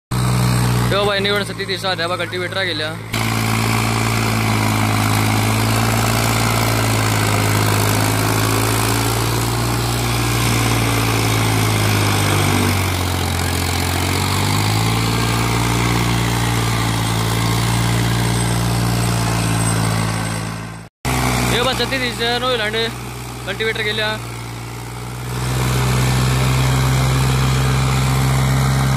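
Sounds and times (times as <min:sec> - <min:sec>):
tractor diesel engine running hard: 0:00.1 - 0:28.9.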